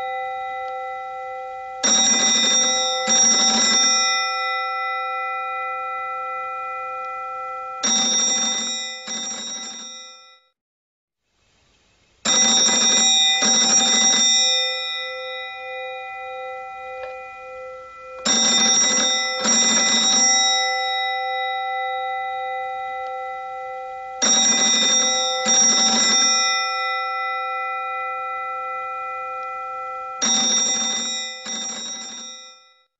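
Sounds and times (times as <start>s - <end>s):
old telephone bell ringing: 0.0s - 10.5s, 12.3s - 32.9s.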